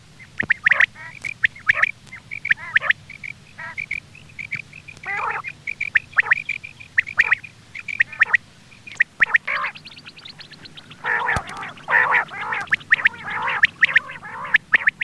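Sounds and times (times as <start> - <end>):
quail calling: 0.2 - 15.0.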